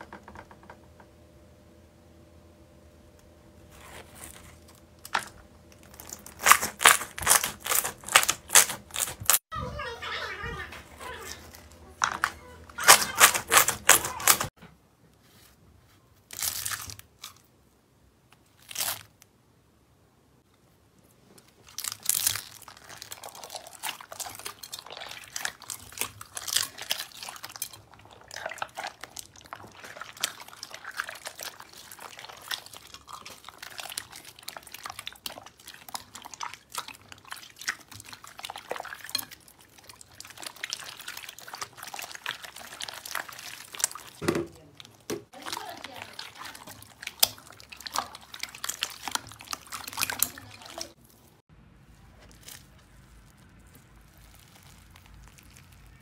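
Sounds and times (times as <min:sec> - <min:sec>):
slime squelches: 0:03.6 - 0:14.6, 0:20.8 - 0:56.0
slime crackling and squishing: 0:03.7 - 0:14.6, 0:16.2 - 0:17.5, 0:18.4 - 0:19.2, 0:21.1 - 0:56.0.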